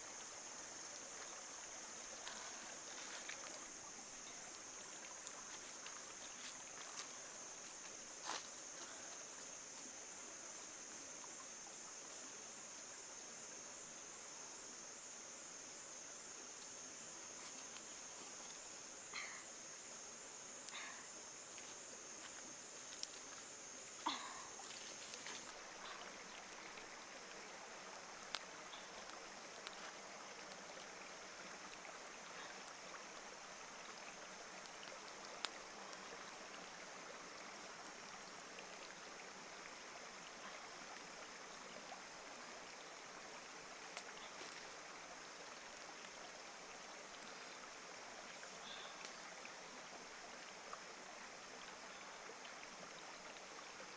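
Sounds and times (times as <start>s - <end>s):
high insect drone: 0.0s - 53.9s
stream water running: 0.0s - 53.9s.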